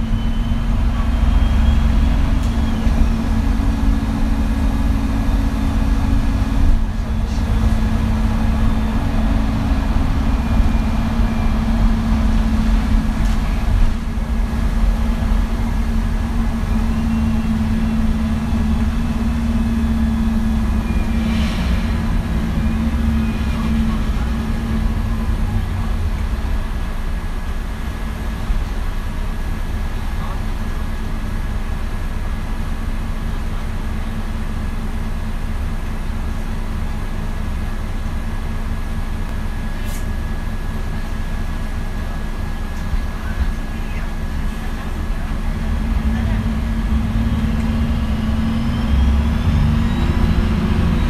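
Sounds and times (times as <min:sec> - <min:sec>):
bus diesel engine idling: 0:00.0 - 0:51.0.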